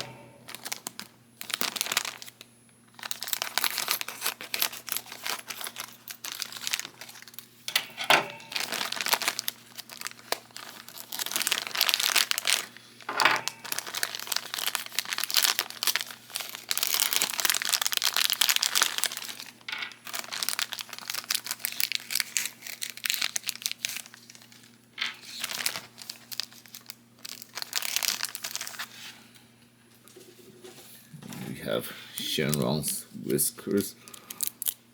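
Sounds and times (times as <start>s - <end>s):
packaging crinkling and rustling: 0.0s - 31.6s, 34.0s - 34.9s.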